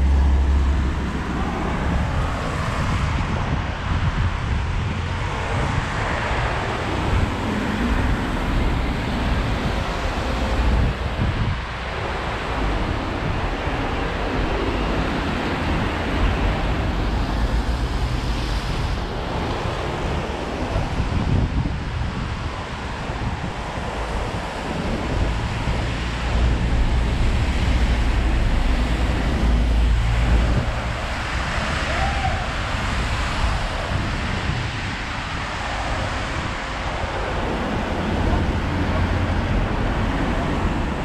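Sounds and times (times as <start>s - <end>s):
traffic on wet road: 0.0s - 41.0s
wind buffeting microphone: 0.0s - 41.0s.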